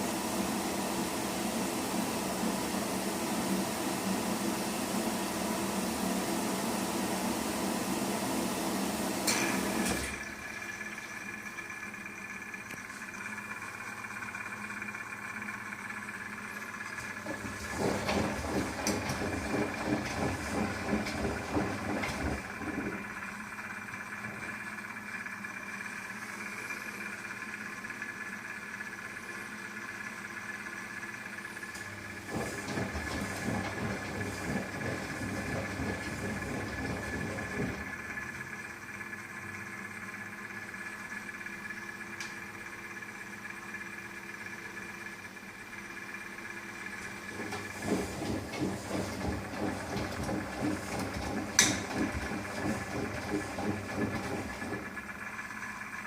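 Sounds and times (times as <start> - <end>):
washing machine hum and hiss: 0.0 - 56.0.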